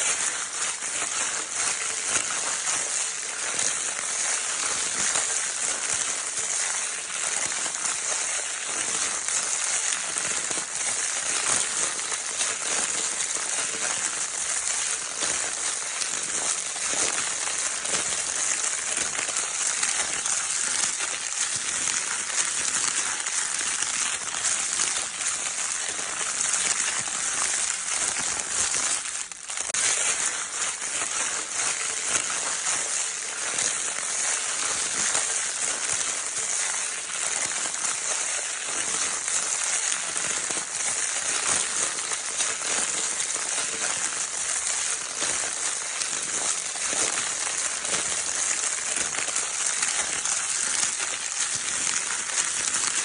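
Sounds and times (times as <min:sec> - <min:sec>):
crinkle paper toy rustling: 0:00.0 - 0:53.0.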